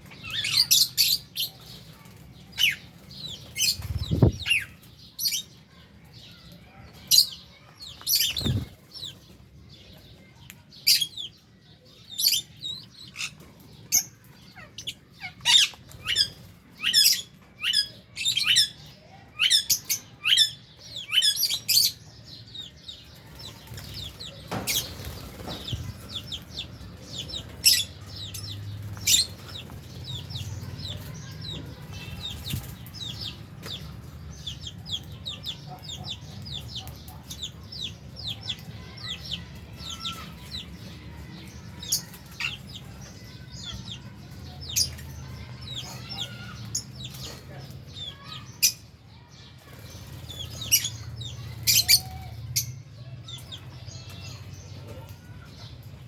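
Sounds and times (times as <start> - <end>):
birds chirping shrilly: 0.0 - 56.0.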